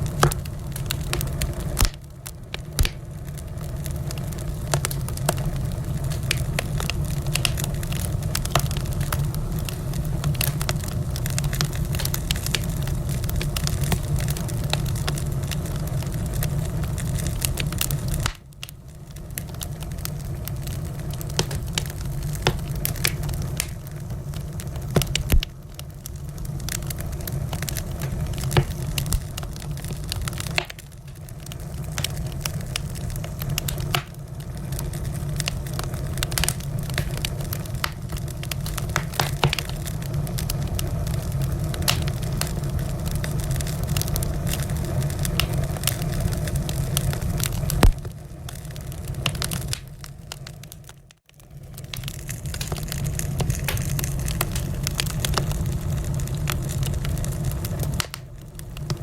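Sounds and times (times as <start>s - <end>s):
fire crackling and popping: 0.0s - 59.0s
wood fire rumbling: 0.0s - 59.0s.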